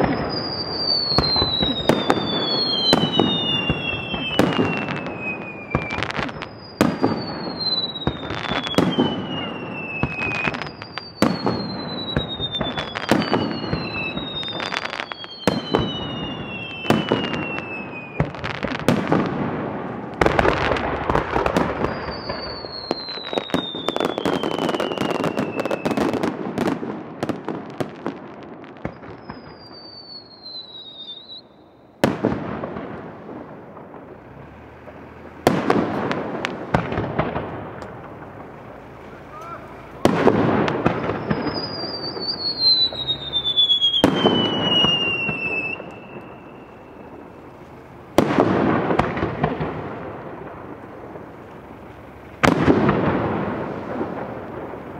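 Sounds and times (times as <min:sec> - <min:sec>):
falling firework whistles: 0:00.0 - 0:54.9
fireworks bangs and crackling: 0:00.0 - 0:54.9.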